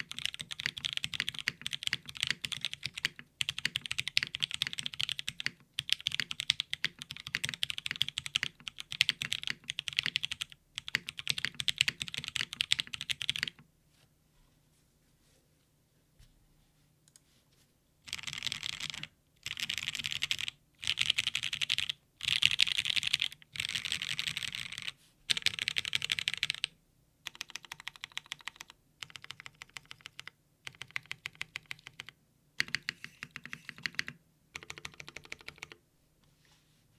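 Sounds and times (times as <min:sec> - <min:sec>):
mechanical keyboard typing: 0:00.0 - 0:13.6, 0:18.1 - 0:26.7, 0:27.3 - 0:35.8.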